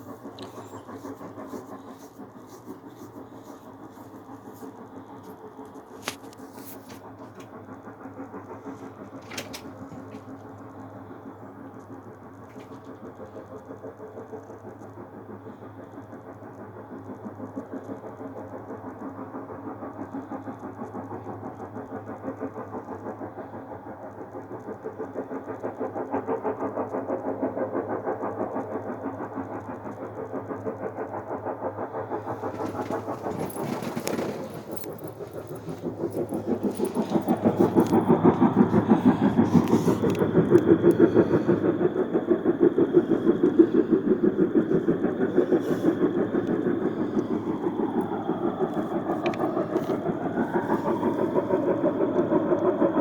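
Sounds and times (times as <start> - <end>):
pulsing mechanical drone: 0.0 - 53.0.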